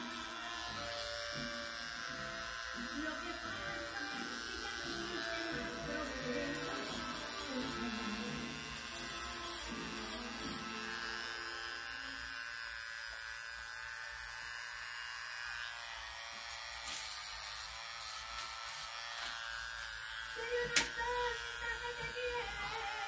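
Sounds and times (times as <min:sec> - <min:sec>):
small electric motor whining: 0:00.0 - 0:23.0.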